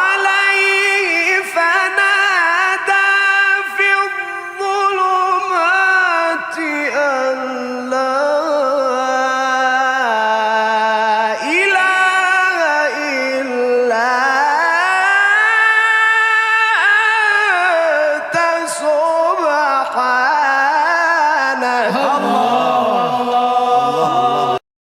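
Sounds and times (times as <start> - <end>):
solo voice chanting: 0.0 - 24.6.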